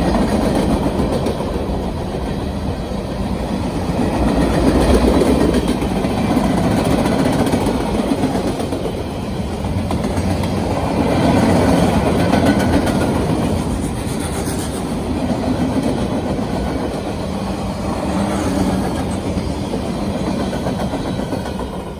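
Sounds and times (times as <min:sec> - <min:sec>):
train wheels on rails: 0:00.0 - 0:21.9.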